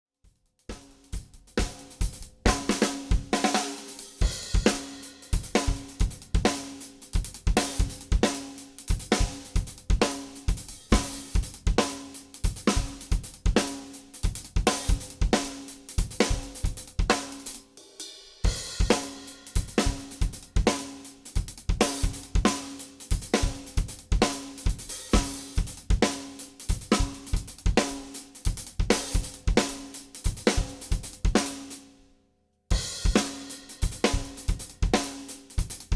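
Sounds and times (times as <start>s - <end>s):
drum kit groove: 0.3s - 31.8s, 32.7s - 35.9s.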